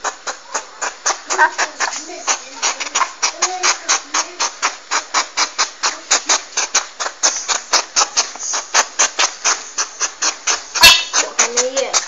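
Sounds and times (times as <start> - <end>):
porcupine short pulses: 0.0 - 12.0.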